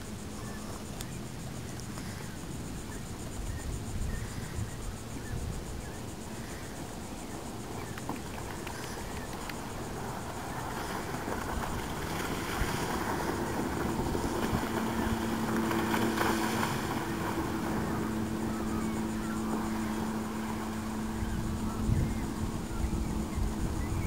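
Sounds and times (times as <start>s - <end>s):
wind noise on microphone: 0.0s - 6.4s, 7.4s - 24.0s
outboard motor humming: 0.0s - 24.0s.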